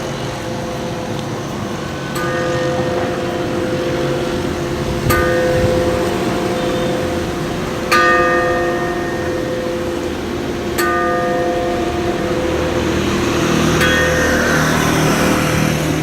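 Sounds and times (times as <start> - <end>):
church bell struck clanging: 0.0 - 16.0.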